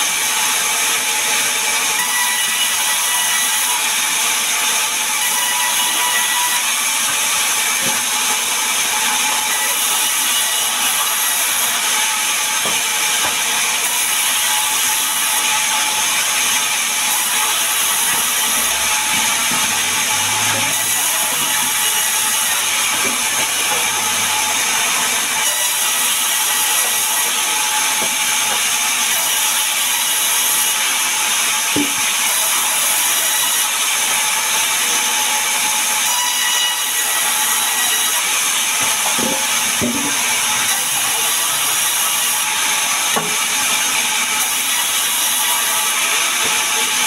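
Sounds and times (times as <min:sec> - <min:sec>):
band saw cutting wood: 0:00.0 - 0:47.0.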